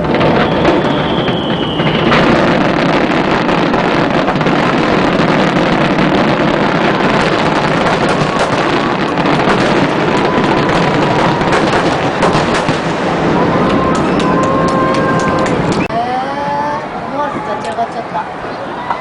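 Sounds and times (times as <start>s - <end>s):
falling firework whistle: 0.0s - 15.9s
fireworks crackling and banging: 0.0s - 15.9s.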